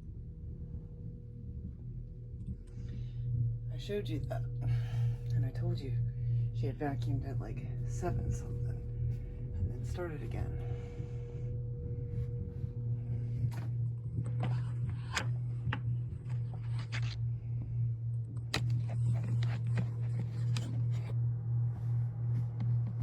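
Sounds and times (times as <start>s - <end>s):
muffled vacuum cleaner hum: 1.2s - 23.0s.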